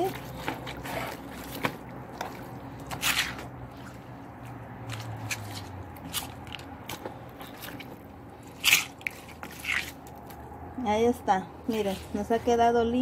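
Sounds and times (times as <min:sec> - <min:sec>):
wet squishes of raw meat: 0:00.0 - 0:10.7.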